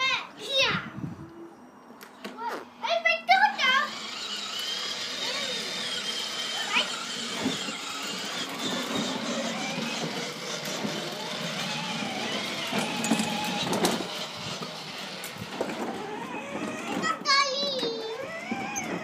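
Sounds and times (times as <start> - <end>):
toy car electric motor running: 3.2 - 19.0.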